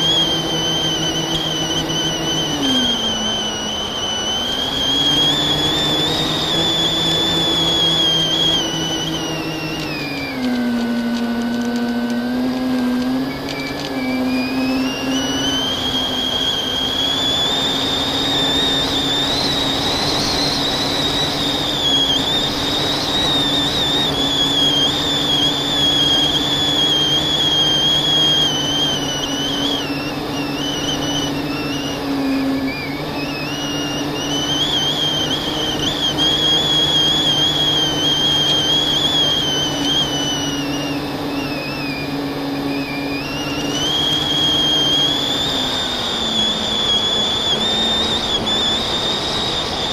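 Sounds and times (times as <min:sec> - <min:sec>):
drone motors whining: 0:00.0 - 0:49.9
steady rushing noise: 0:00.0 - 0:49.9.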